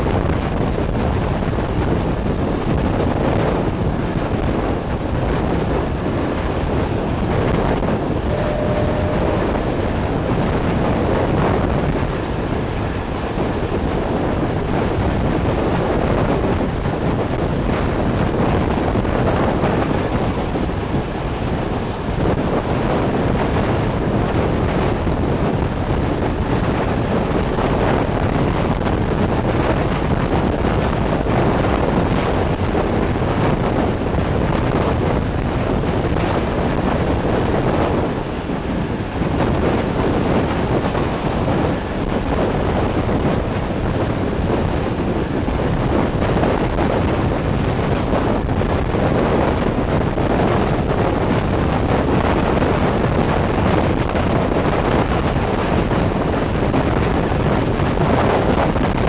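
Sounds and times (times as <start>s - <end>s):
train running on track: 0.0s - 59.0s
wind buffeting microphone: 0.0s - 59.0s.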